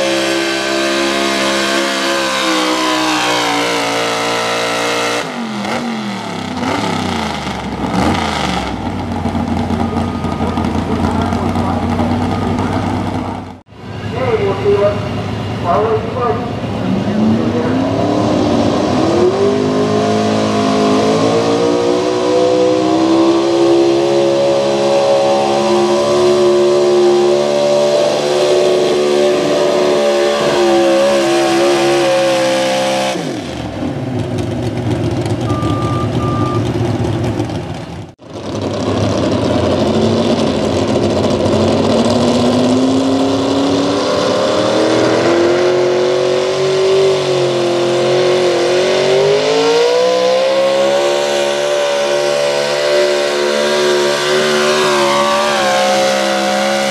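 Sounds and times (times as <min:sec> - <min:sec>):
truck engine revving under load: 0:00.0 - 0:56.9.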